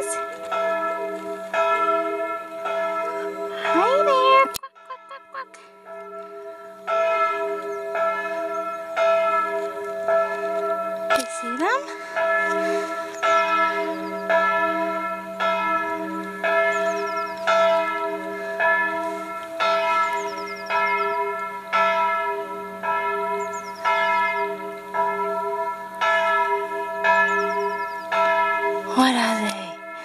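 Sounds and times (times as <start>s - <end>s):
church bell ringing: 0.0s - 30.0s.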